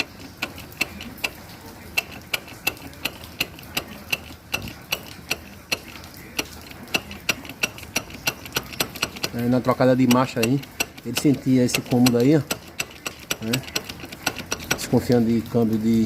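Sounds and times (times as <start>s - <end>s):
drive shaft joint clicking: 0.0s - 16.0s.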